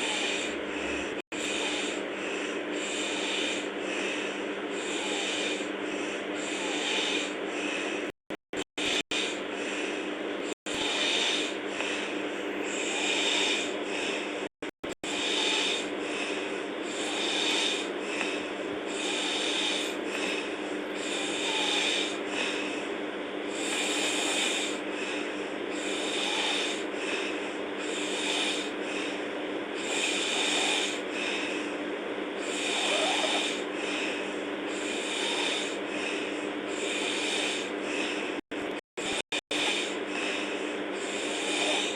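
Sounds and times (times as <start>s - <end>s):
girl snoring: 0.0s - 22.9s, 23.5s - 29.2s, 29.8s - 31.8s, 32.4s - 41.9s.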